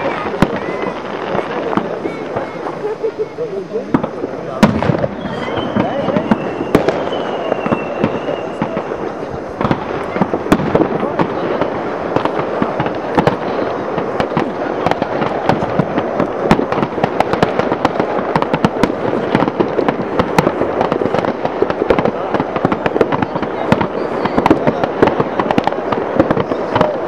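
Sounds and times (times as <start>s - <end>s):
fireworks and firecrackers banging: 0.0s - 27.0s.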